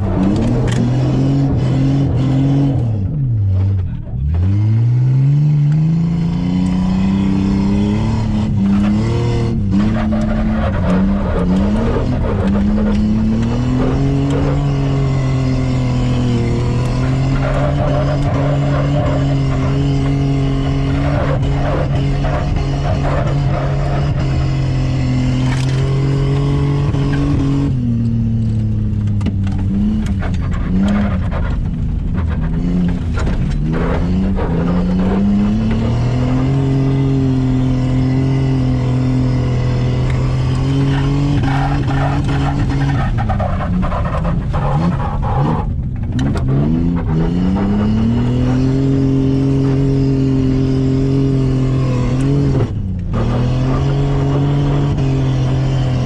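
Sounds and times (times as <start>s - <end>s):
car engine at high revs: 0.0s - 56.0s
tyres skidding: 0.0s - 56.0s.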